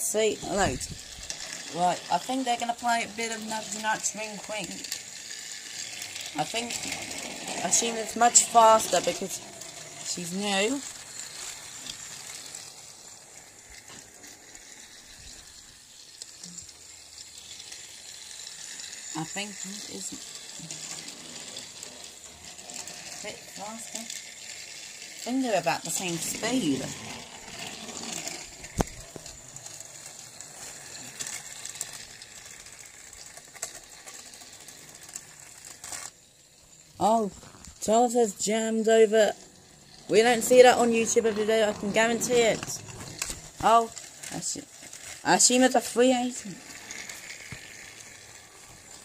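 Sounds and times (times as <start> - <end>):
toy trains whirring: 0.0 - 49.0.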